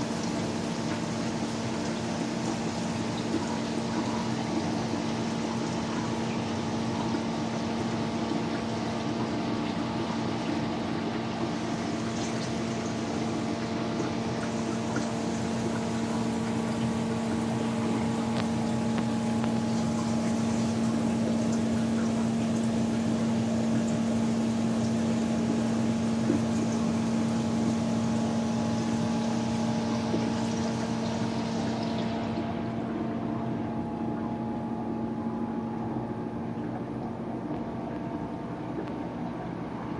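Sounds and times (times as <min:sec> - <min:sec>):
pouring trickling water: 0:00.0 - 0:32.8
pump electric hum: 0:00.0 - 0:39.9.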